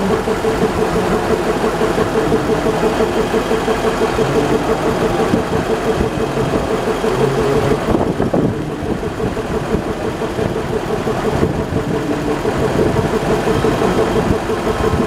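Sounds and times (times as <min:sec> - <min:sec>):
locomotive idling: 0:00.0 - 0:15.0.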